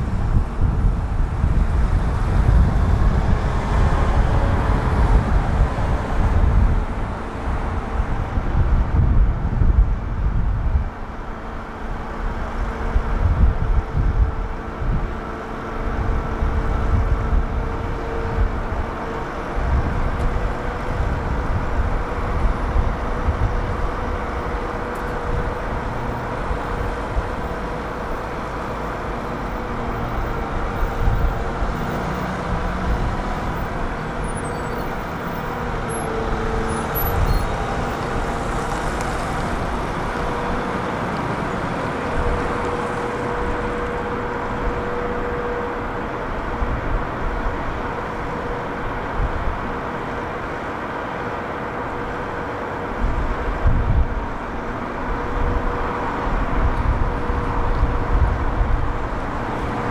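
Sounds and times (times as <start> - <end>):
diesel excavator engine running: 0.0 - 59.9.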